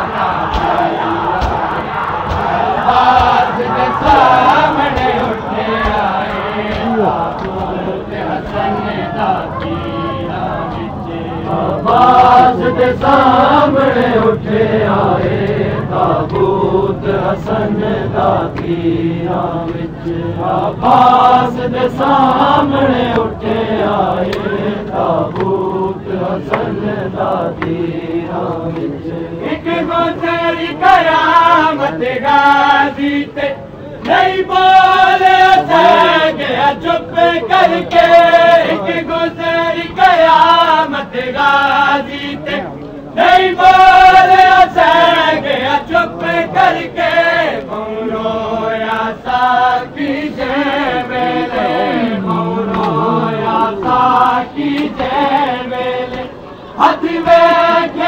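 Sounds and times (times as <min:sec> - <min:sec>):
crowd chanting a lament: 0:00.0 - 0:58.0.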